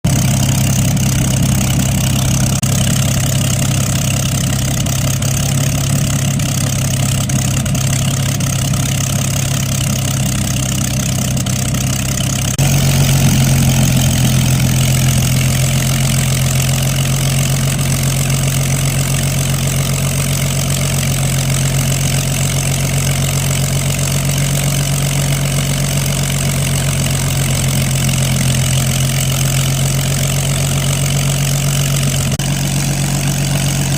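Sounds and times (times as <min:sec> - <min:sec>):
light aircraft piston engine: 0:00.1 - 0:33.9.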